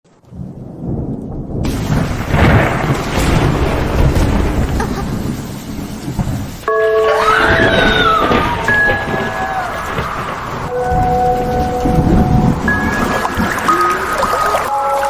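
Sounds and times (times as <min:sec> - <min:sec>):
steady rain: 0:00.1 - 0:15.0
thunder rumbling: 0:00.1 - 0:15.0.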